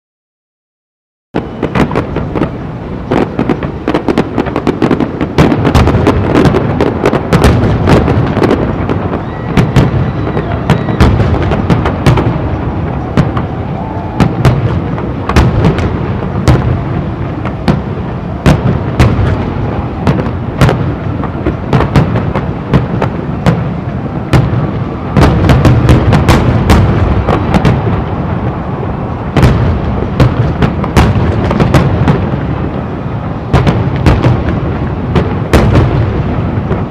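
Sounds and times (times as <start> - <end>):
fireworks booms and crackles: 1.4 - 36.9.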